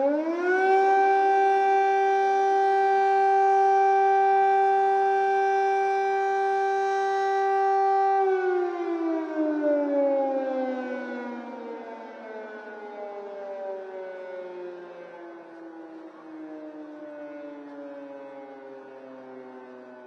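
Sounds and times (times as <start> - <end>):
air raid siren: 0.0 - 20.0.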